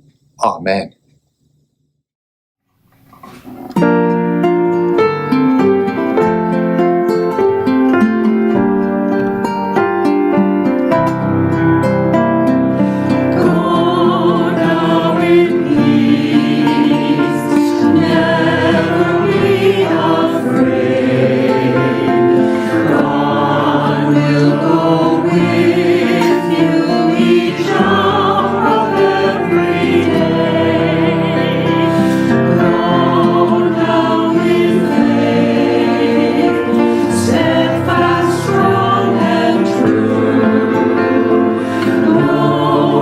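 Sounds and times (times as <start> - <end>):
church choir singing: 3.6 - 43.0.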